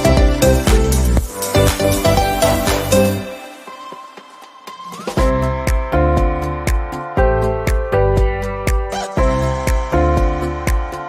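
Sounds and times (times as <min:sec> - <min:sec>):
electronic music beat: 0:00.0 - 0:11.0.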